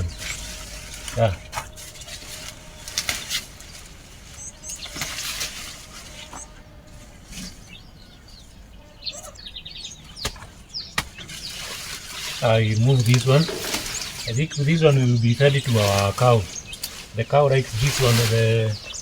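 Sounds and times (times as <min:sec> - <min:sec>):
birds chirping: 0:00.0 - 0:19.0
leaves rustling and stems crackling: 0:00.0 - 0:19.0.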